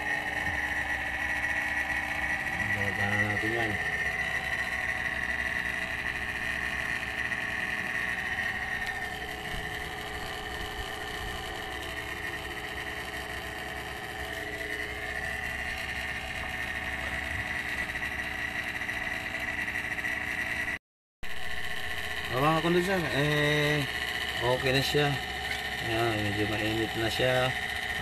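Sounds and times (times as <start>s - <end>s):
constant high whine: 0.0s - 28.0s
refrigerator compressor hum: 0.0s - 28.0s.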